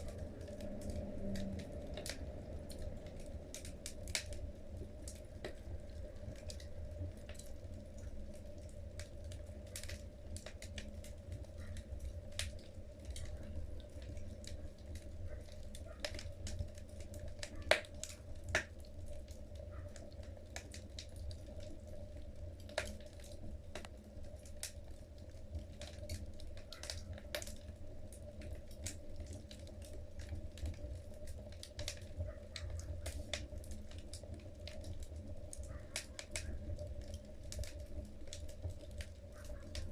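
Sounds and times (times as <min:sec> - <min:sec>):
low steady fire rumble: 0:00.0 - 0:39.9
wood fire crackling and popping: 0:00.0 - 0:39.9.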